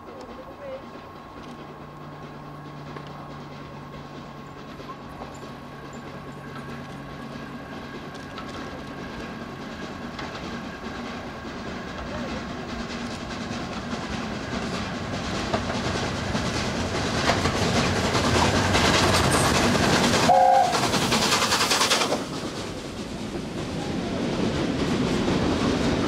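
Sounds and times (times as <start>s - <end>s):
steam locomotive approaching: 0.0s - 26.0s
train wheels on rails: 0.0s - 26.0s.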